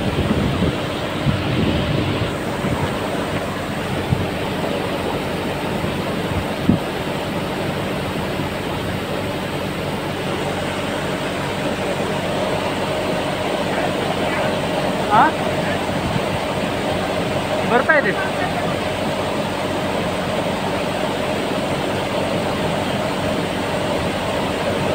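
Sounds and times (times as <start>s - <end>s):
cooling tower water and fan rush: 0.0s - 24.9s.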